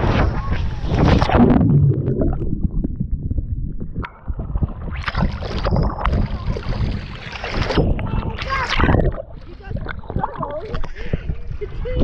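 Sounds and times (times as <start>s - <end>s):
underwater rumbling and bubbling: 0.0s - 12.0s
water splashing: 0.7s - 11.4s.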